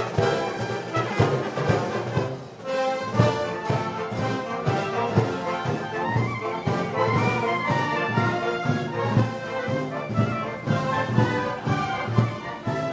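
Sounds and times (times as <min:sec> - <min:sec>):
brass band playing: 0:00.0 - 0:12.9
steady drum beat: 0:00.0 - 0:12.9.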